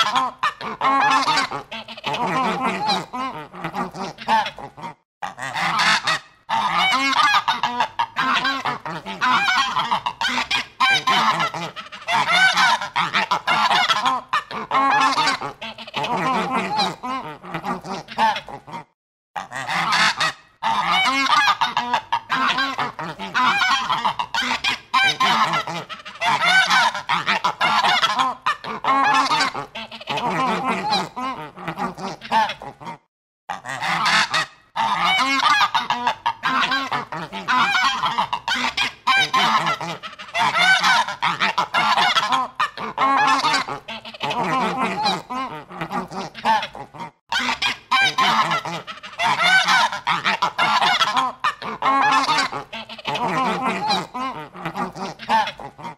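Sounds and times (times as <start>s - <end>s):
geese honking: 0.0s - 18.8s, 19.4s - 33.0s, 33.6s - 55.9s.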